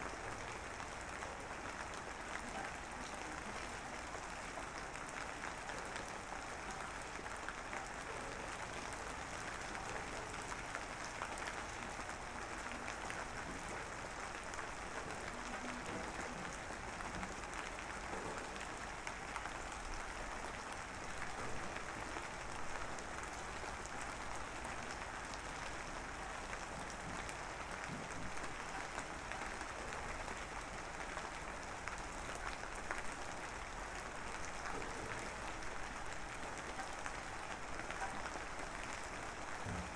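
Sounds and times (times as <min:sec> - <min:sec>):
drizzling rain: 0:00.0 - 0:39.9.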